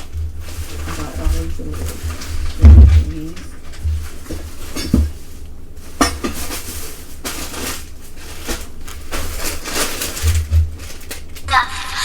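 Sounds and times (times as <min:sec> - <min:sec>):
packaging rustling and clattering: 0:00.0 - 0:11.5.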